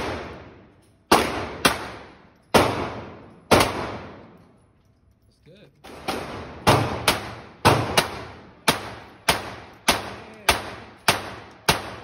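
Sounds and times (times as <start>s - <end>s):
pistol shots echoing indoors: 0.0s - 4.6s, 5.9s - 12.0s.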